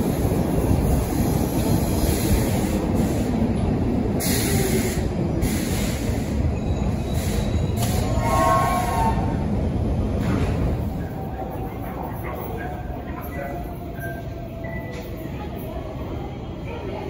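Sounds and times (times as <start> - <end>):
metro train wheels rumbling on rails: 0.0 - 17.0.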